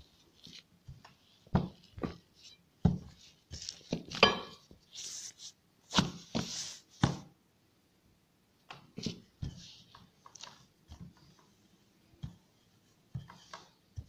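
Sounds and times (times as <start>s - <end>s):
rolling pin rolling dough: 0.0s - 7.4s, 8.7s - 14.0s.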